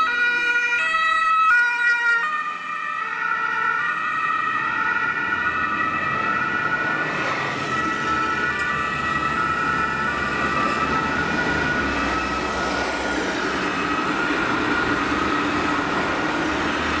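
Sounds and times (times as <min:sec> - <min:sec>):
emergency vehicle sirens: 0:00.0 - 0:17.0
street traffic rumble: 0:00.0 - 0:17.0.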